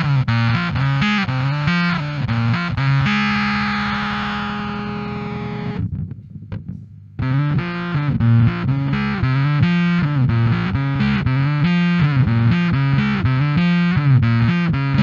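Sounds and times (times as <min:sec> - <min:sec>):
fuzzed bass guitar: 0:00.0 - 0:15.0.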